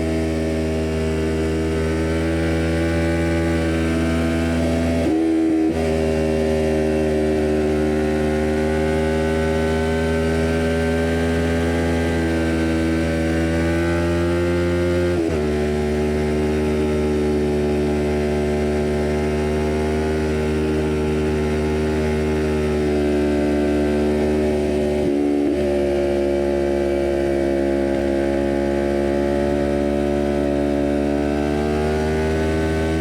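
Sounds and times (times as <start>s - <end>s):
motorcycle engine high-revving buzz: 0.0s - 33.0s.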